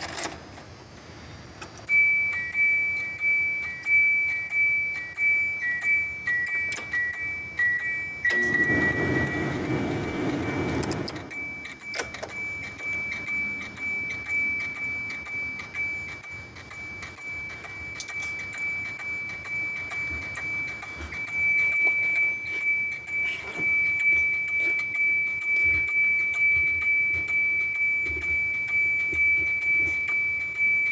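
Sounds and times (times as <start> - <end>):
car door warning chime: 1.9 - 30.9
steady high ring: 1.9 - 30.9.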